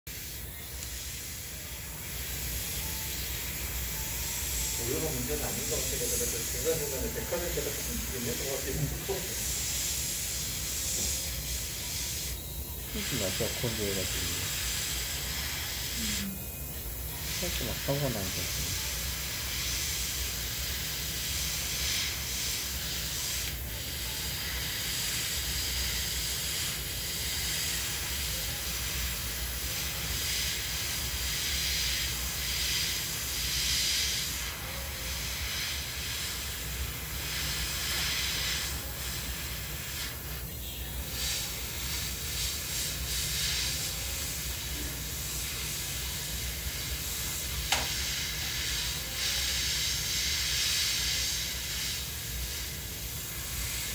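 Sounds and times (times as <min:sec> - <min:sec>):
airbrush hissing: 0:00.1 - 0:53.9.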